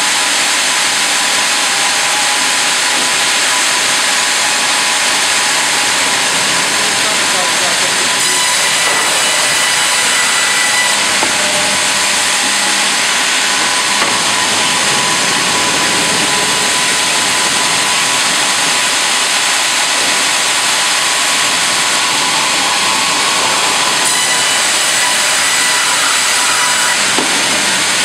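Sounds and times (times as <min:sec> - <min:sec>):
machinery hum: 0:00.0 - 0:28.0.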